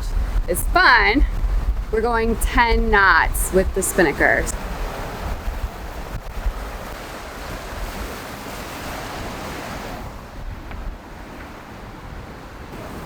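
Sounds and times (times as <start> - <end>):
water rushing along hulls: 0.0 - 13.0
wind buffeting microphone: 0.0 - 13.0.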